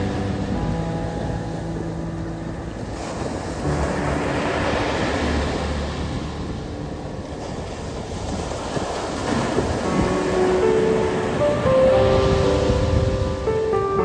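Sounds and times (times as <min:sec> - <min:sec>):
small waves breaking on sand: 0:02.2 - 0:13.7.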